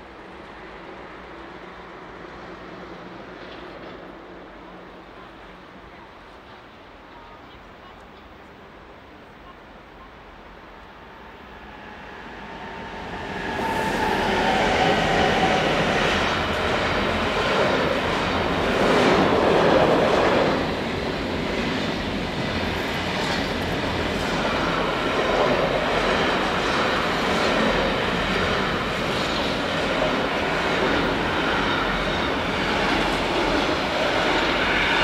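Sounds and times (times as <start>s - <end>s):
train passing: 0.0s - 7.3s, 8.2s - 35.0s.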